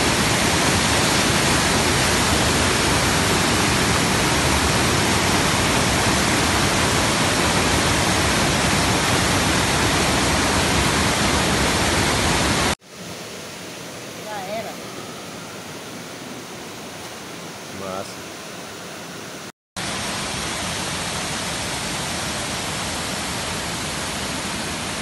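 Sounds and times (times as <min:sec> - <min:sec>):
rushing white water: 0:00.0 - 0:25.0.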